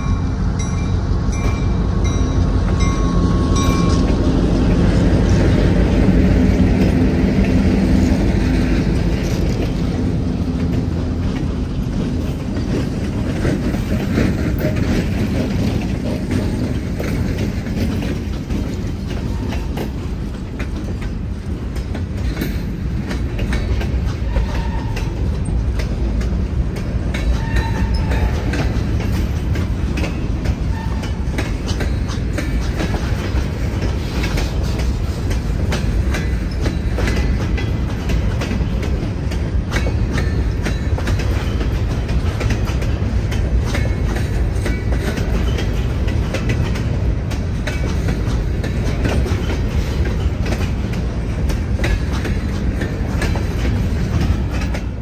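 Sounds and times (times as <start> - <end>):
freight train rumbling: 0.0 - 55.0
wheels clicking over rail joints: 0.6 - 55.0.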